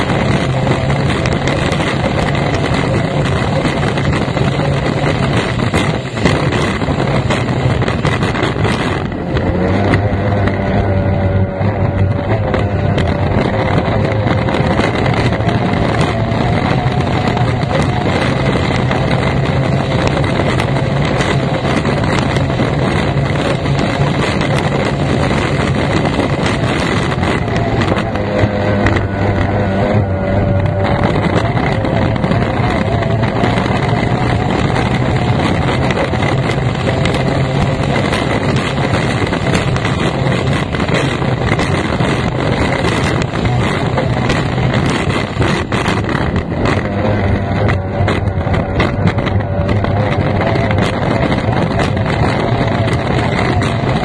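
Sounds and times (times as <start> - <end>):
outboard engine running hard: 0.0 - 54.0
wind noise on microphone: 0.0 - 54.0.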